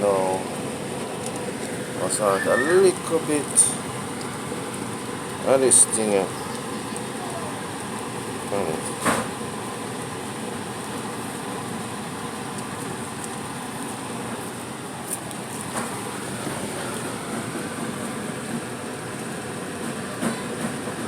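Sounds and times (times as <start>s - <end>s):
sauce sizzling and bubbling in pot: 0.0s - 19.9s.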